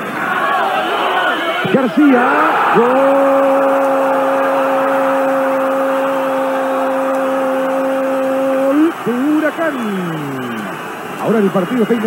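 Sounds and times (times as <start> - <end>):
stadium crowd noise: 0.0 - 12.0
commentator shouting goal: 1.6 - 12.0.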